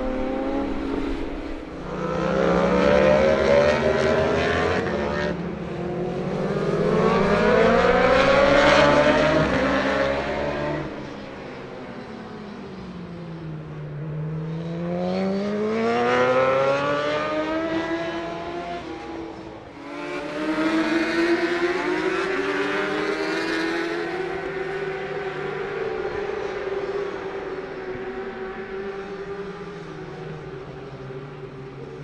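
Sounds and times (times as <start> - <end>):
race motorcycle engines accelerating: 0.0 - 32.0.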